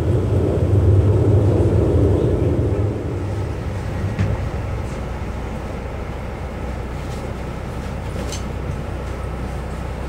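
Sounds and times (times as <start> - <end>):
train engine and wheels rumbling: 0.0 - 10.0.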